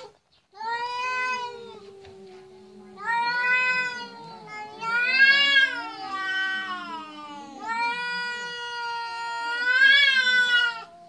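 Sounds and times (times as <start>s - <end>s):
cat yowling: 0.0s - 11.0s.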